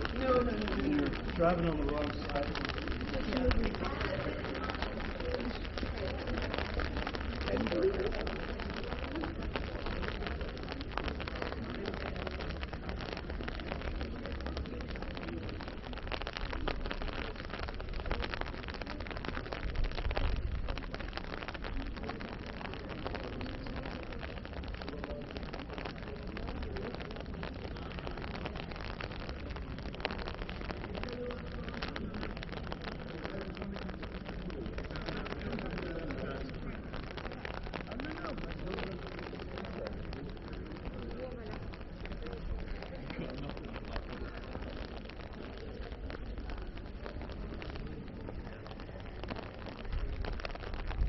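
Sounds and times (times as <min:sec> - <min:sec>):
dense patter of rain: 0:00.0 - 0:51.0.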